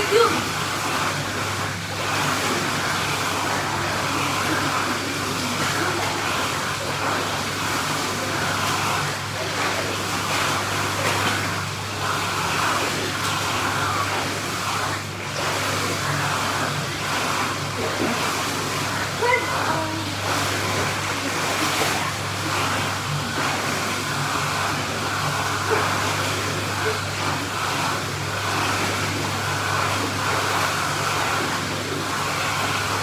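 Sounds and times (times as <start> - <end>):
churning pool water: 0.0 - 33.0
swimmer splashing: 0.0 - 33.0.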